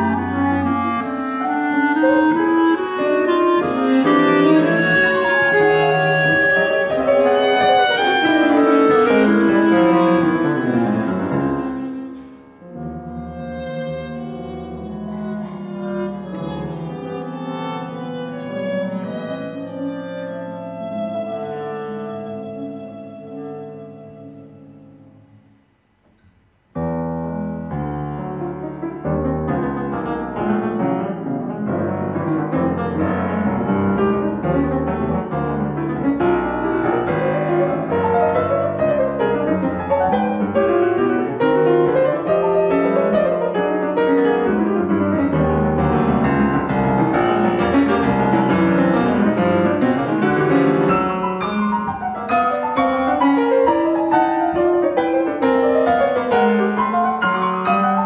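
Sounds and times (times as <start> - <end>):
atonal piano chords and runs: 0.0 - 25.3, 26.6 - 58.0
clarinet viola and piano notes: 0.0 - 25.5, 26.8 - 58.0.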